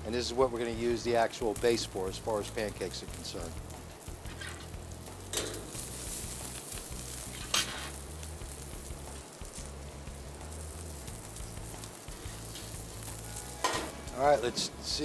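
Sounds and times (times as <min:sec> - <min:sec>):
steak sizzling on a grill: 0:00.0 - 0:15.0.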